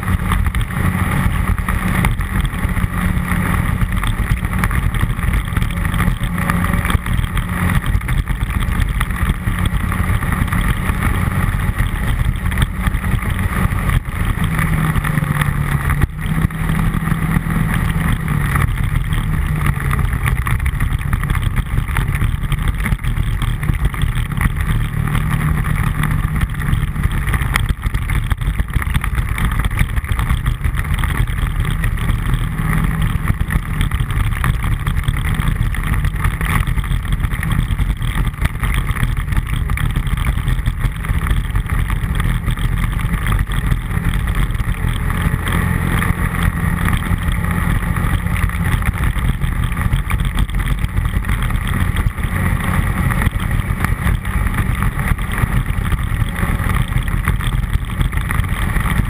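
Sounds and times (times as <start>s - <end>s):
atv engine running: 0.0s - 59.0s
tyre and wind noise on gravel: 0.0s - 59.0s.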